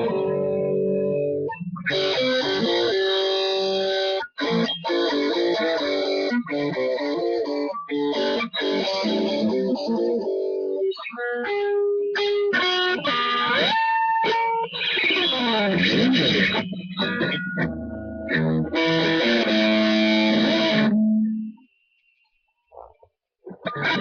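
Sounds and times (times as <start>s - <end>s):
solo electric guitar: 0.0s - 21.7s, 22.8s - 24.0s.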